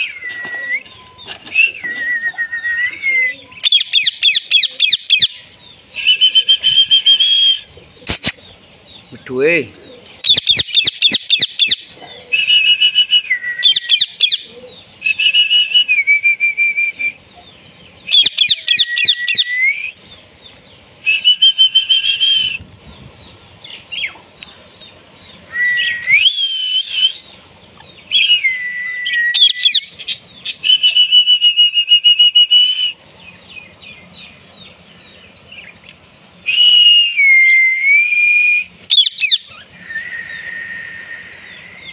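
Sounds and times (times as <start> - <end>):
parakeets squawking and whistling: 0.0 - 9.4, 10.0 - 16.0, 17.0 - 37.1, 38.3 - 41.9.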